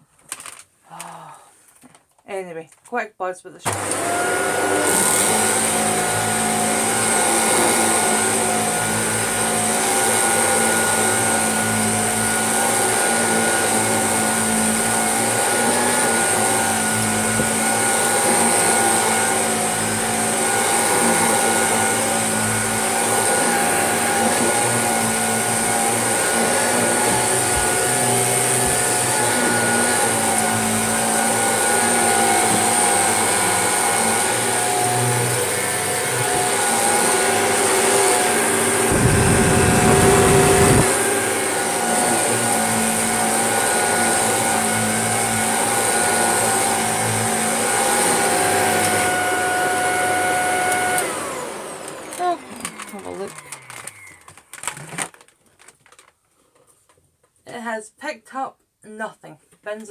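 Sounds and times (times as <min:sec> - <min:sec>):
vacuum cleaner motor whine: 0:03.6 - 0:55.2.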